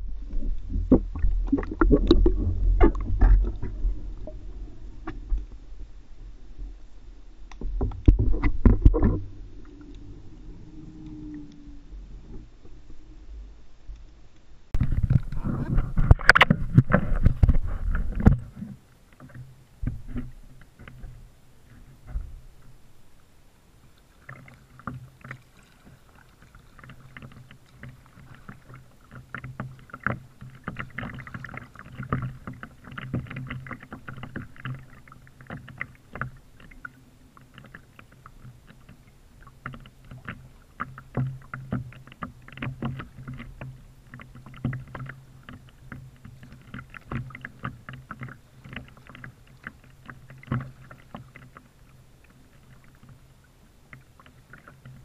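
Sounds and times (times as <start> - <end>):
paddle splashing water: 0.0 - 6.8, 7.6 - 12.9, 14.8 - 55.0
water lapping against hull: 0.0 - 14.1, 14.7 - 55.0
low steady hum: 0.0 - 55.0.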